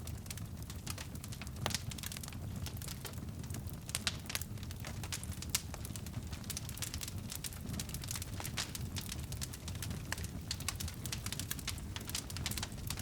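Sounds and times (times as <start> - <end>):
fire popping and snapping: 0.0 - 13.0
wood fire crackling: 0.0 - 13.0.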